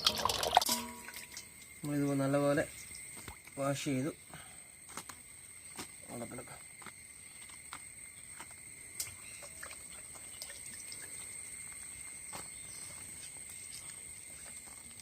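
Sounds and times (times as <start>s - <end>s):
background hiss: 0.0s - 15.0s
crickets chirring: 0.0s - 15.0s.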